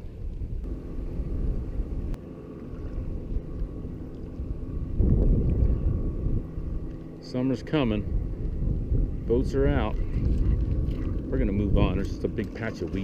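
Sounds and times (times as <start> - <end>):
motorboat engine droning: 0.0 - 13.0
wind rumble on microphone: 0.0 - 13.0.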